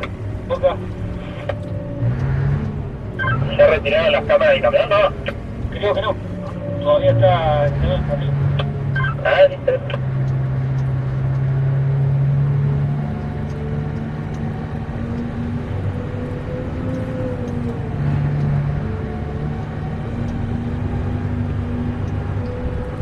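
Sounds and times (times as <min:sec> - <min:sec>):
truck diesel engine droning: 0:00.0 - 0:23.0.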